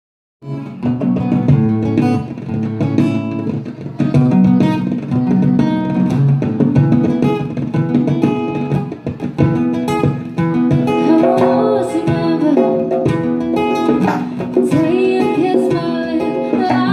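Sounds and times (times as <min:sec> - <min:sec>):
acoustic guitar: 0:00.4 - 0:16.9
djembe hand drum: 0:00.6 - 0:16.9.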